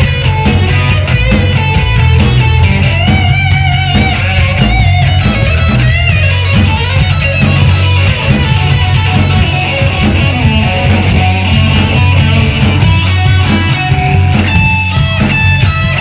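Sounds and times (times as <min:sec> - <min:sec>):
drum beat with cymbals: 0:00.0 - 0:16.0
heavy bass: 0:00.0 - 0:16.0
lead electric guitar bent notes: 0:00.0 - 0:16.0.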